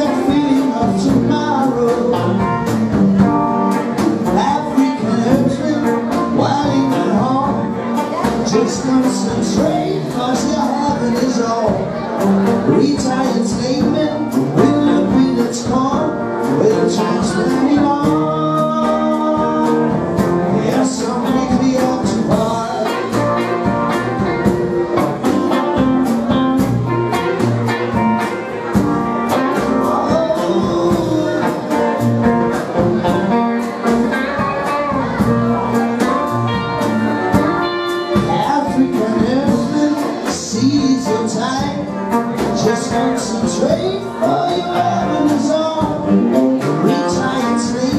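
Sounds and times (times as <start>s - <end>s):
drum kit: 0.0s - 47.9s
electric bass: 0.0s - 47.9s
electric guitars: 0.0s - 47.9s
man singing: 0.0s - 47.9s.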